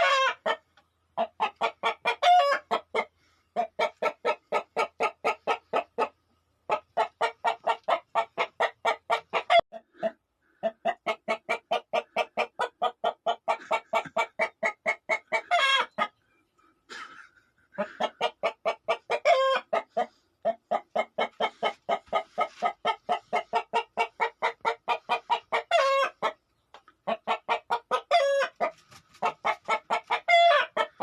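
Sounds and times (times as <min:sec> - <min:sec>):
chicken drawn-out call: 0:00.0 - 0:06.1, 0:06.7 - 0:16.2, 0:17.7 - 0:26.4, 0:27.0 - 0:31.0
chicken clucking: 0:00.0 - 0:31.0.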